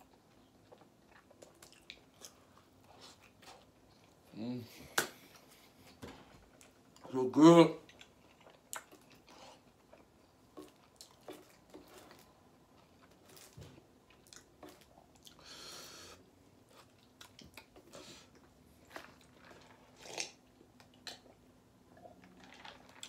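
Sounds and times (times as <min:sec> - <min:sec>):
man chewing food: 0:00.0 - 0:07.1, 0:07.8 - 0:23.0.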